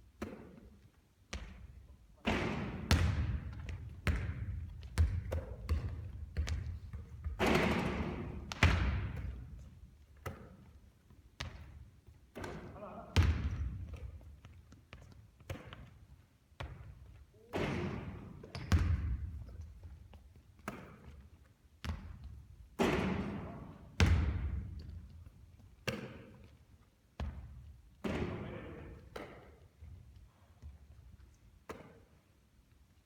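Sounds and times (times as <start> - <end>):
basketball bouncing on hard court: 0.2 - 23.4, 24.0 - 26.6, 27.2 - 32.0.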